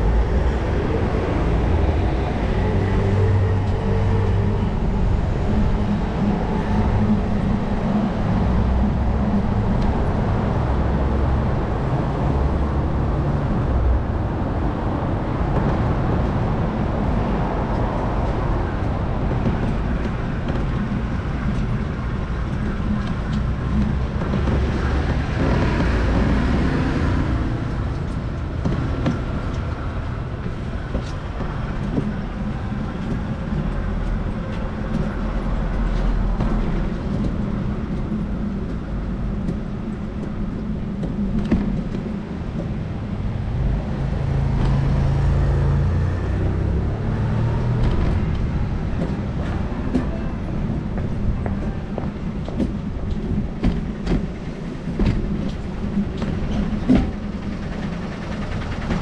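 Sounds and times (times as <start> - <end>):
city traffic: 0.0 - 59.0
steady low rumble: 0.0 - 59.0.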